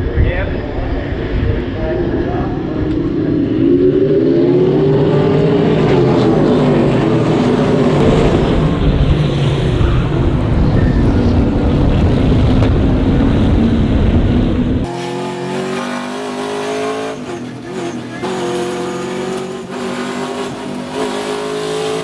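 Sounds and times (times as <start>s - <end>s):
race car engines running hard: 0.0s - 22.0s.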